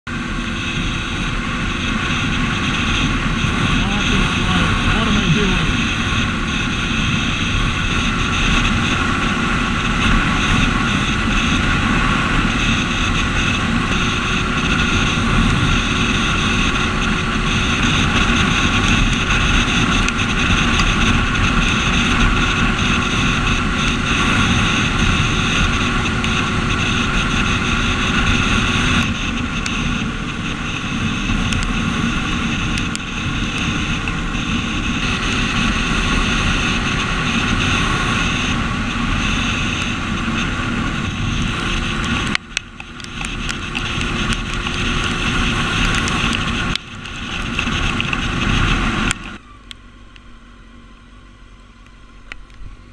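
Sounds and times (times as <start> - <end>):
motorcycle engine running: 0.0 - 52.9
wind noise on microphone: 0.1 - 49.4.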